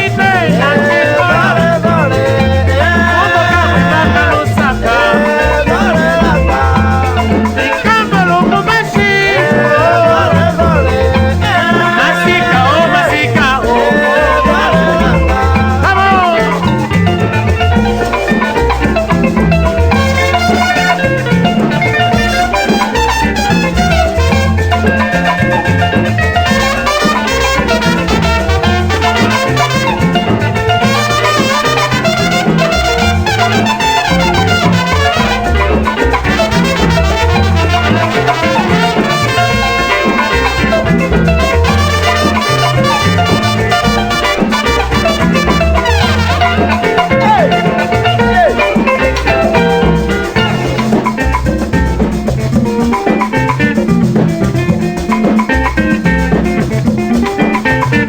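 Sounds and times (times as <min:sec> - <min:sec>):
dance band instrumental: 0:00.0 - 0:58.0.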